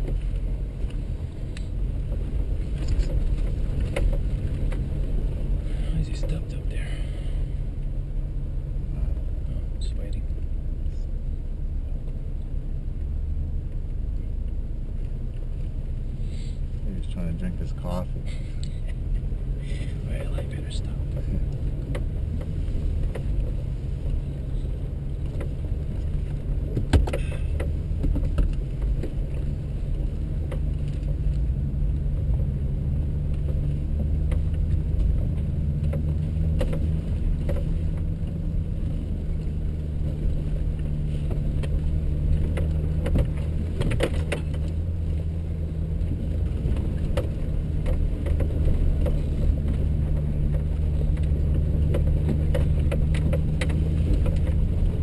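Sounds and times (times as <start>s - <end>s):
body and suspension knocks and rattles: 0.0s - 6.9s, 13.8s - 55.0s
engine running at low speed: 0.0s - 55.0s.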